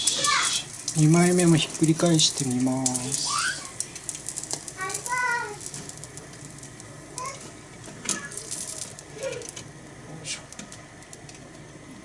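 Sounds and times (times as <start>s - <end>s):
wood fire clicks and crackles: 0.0s - 12.0s.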